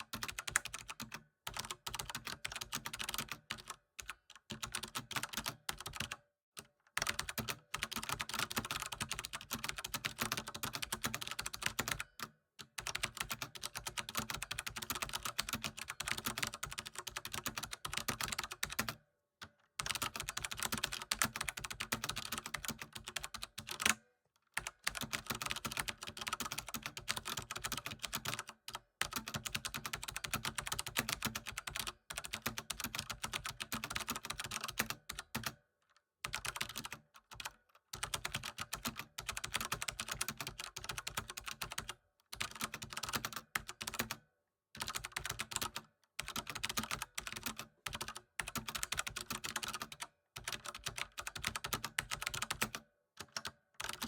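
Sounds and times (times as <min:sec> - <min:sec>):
fast typing on keyboard: 0:00.0 - 0:06.2, 0:07.0 - 0:19.0, 0:19.8 - 0:24.0, 0:24.6 - 0:35.6, 0:36.2 - 0:44.2, 0:44.8 - 0:54.0.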